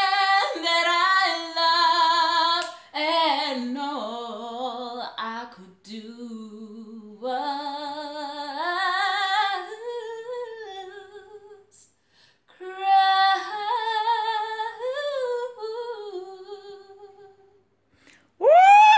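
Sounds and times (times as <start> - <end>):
woman singing unaccompanied: 0.0 - 11.9, 12.5 - 17.6.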